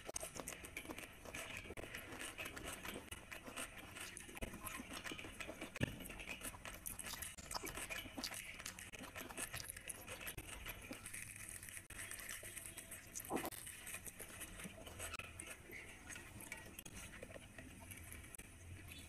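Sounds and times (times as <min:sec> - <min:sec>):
person chewing: 0:00.0 - 0:18.4.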